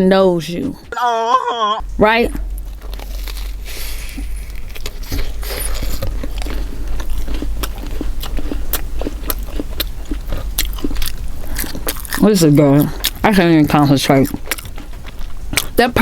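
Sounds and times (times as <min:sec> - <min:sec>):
steady low hum: 0:00.0 - 0:16.0
sandwich crunching being chewed: 0:02.5 - 0:16.0.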